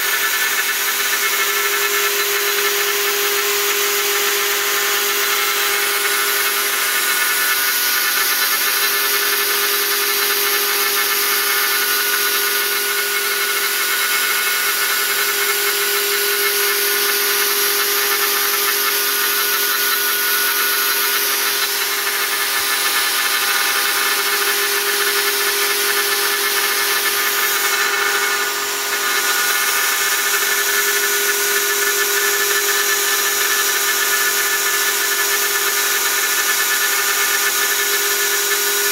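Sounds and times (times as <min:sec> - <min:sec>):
router motor whine: 0:00.0 - 0:38.9.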